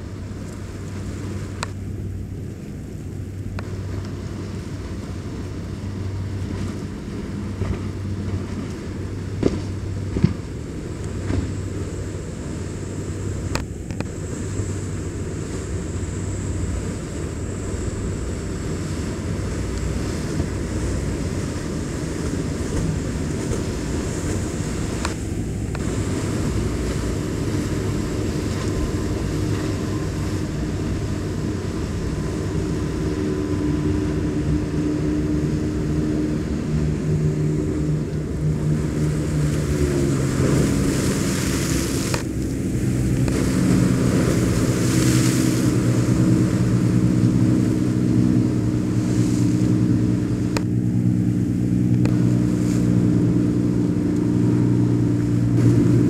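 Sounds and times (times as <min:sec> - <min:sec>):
motorboat engines droning: 0:00.0 - 0:56.0
wind on microphone: 0:00.0 - 0:56.0.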